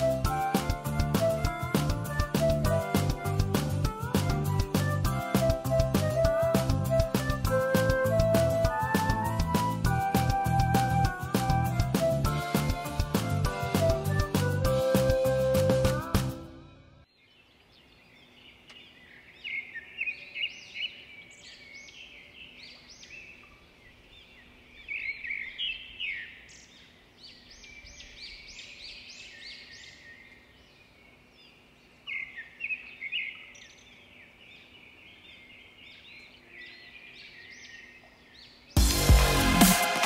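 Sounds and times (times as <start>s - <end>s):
birds chirping: 0.0s - 11.2s, 17.1s - 38.8s
faint outdoor background noise: 0.0s - 38.8s.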